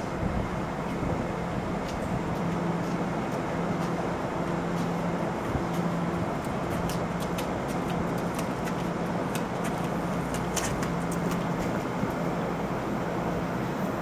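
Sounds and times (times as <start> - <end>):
passenger train rumble and hum: 0.0 - 14.0.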